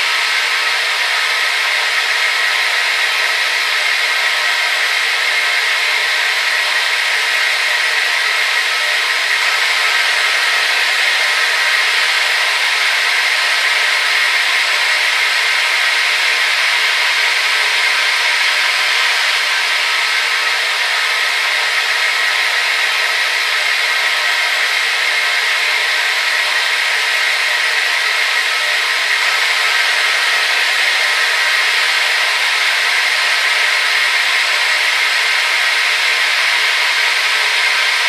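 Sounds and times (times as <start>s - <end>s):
hair dryer blowing: 0.0s - 38.0s.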